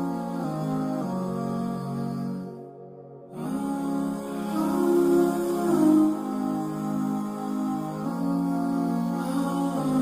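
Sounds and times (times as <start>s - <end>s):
slow new-age chords: 0.0s - 10.0s.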